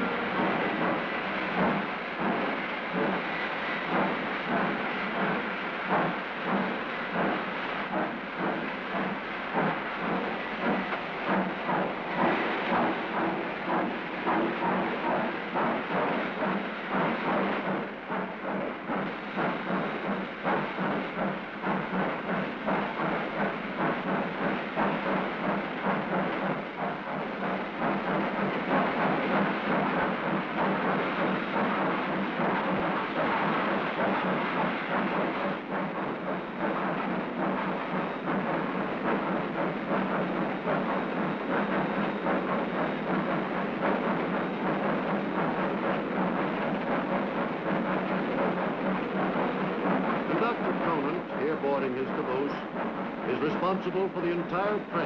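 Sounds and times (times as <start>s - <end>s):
steel wheels on rail: 0.0s - 55.0s.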